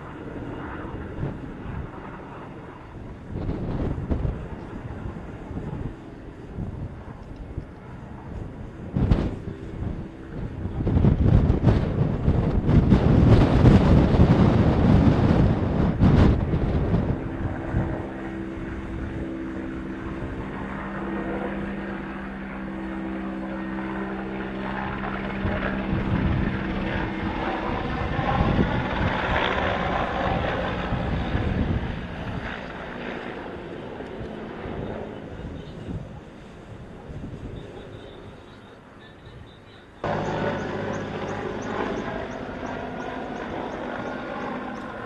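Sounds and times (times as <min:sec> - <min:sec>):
wind buffeting microphone: 0:00.0 - 0:38.5, 0:40.0 - 0:45.0
distant helicopter drone: 0:00.0 - 0:45.0.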